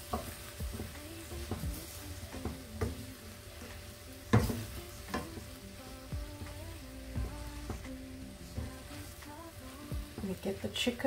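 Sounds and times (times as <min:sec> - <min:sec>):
spatula scraping and knocking wok: 0:00.0 - 0:05.6, 0:06.2 - 0:11.0
light sizzle: 0:00.0 - 0:11.0.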